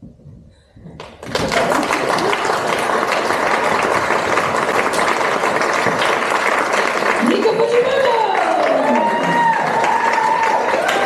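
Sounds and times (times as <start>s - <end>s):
audience applauding: 1.0s - 11.0s.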